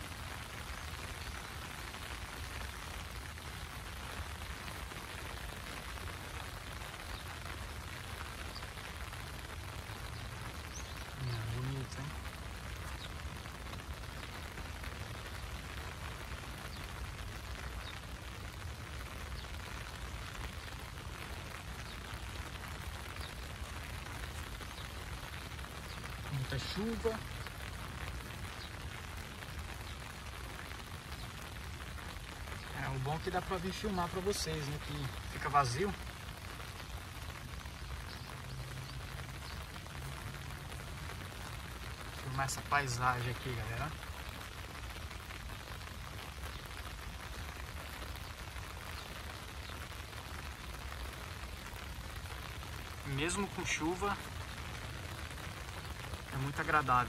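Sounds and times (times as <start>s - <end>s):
rain on grass and trees: 0.0s - 57.0s.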